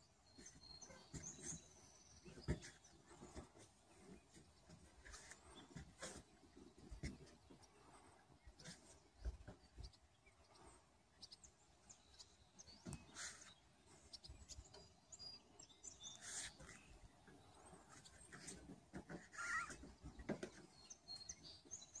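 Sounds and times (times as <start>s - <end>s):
faint birdsong chirps: 0.0s - 22.0s.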